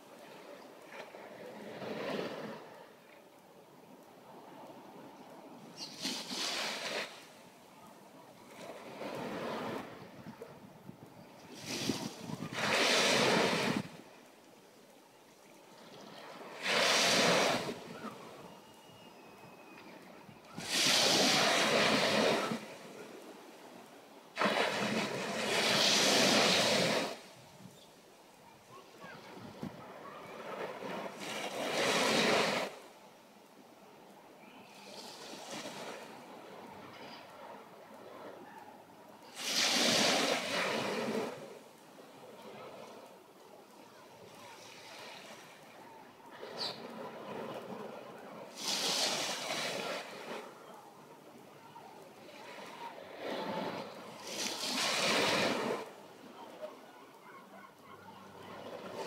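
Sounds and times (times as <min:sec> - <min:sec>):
small waves breaking on sand: 0:00.0 - 0:59.0.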